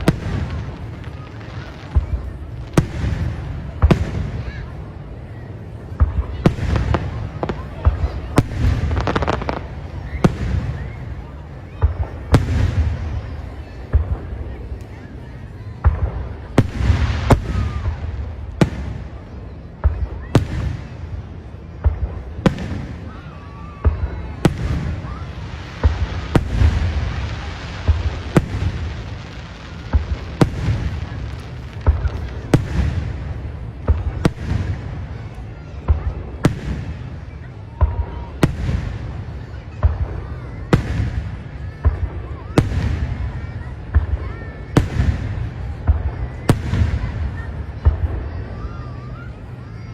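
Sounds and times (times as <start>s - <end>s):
fireworks bangs: 0.0s - 49.6s.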